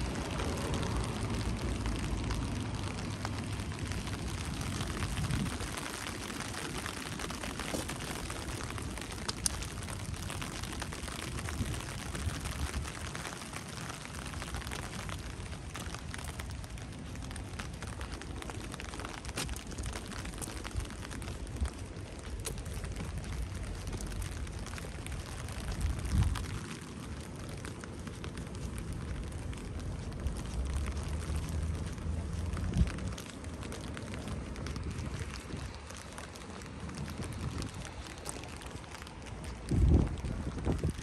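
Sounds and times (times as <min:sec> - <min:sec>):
raindrops ticking close by: 0:00.0 - 0:41.0
steady rain falling: 0:00.0 - 0:41.0.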